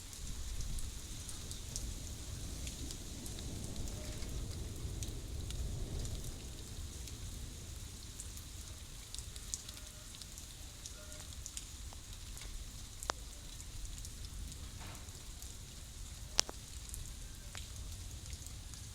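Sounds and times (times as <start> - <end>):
light rain: 0.0 - 18.9
raindrops ticking and tapping: 0.0 - 18.9.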